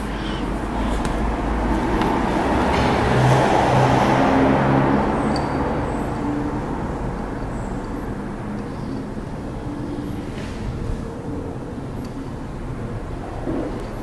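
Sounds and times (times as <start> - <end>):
motor vehicle passing: 0.0 - 11.8.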